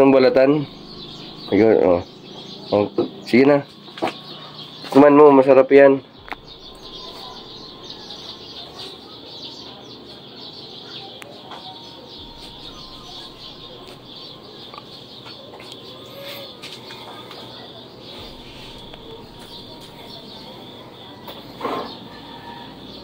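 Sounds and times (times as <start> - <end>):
faint low hum: 0.0 - 4.6, 6.1 - 10.1, 11.0 - 23.0
high-pitched chirping chorus: 0.0 - 23.0.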